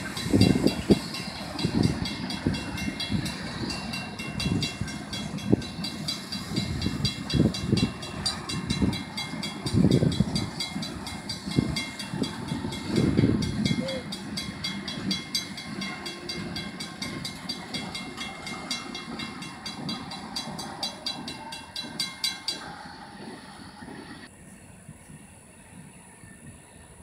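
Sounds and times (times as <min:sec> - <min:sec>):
crossing bell ringing: 0:00.0 - 0:23.5
train wheels clattering: 0:00.0 - 0:24.3.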